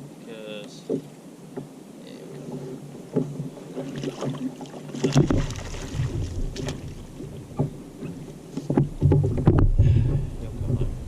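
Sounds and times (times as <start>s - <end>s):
water sloshing: 0.6s - 11.0s
knocks and clatter on plastic kayak: 0.8s - 1.8s, 2.4s - 11.0s.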